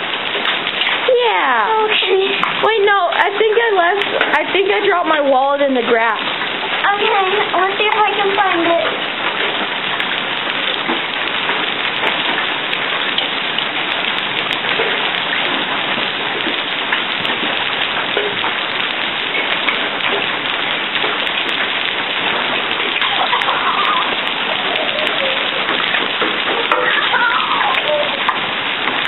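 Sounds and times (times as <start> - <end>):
hail pattering: 0.0 - 29.0.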